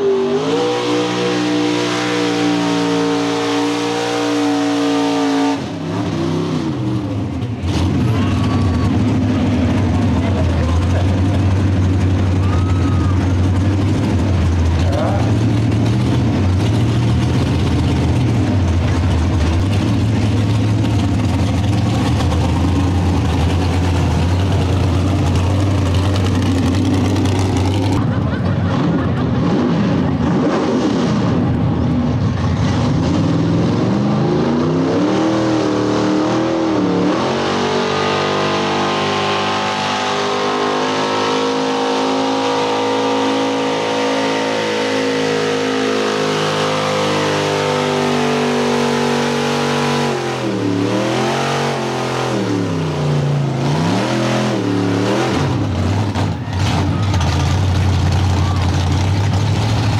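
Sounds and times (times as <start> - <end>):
engine revving and idling: 0.0 - 28.1, 28.7 - 59.9
truck engine at full throttle: 0.0 - 59.9.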